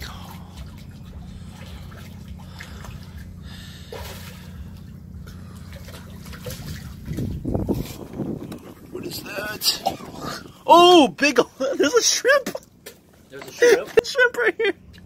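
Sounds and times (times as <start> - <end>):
steady low hum: 0.0 - 15.0
water trickling and lapping: 0.0 - 15.0.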